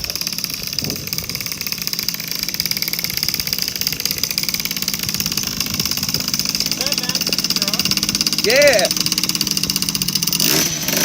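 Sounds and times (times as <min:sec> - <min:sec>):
moped engine running: 0:00.0 - 0:11.0.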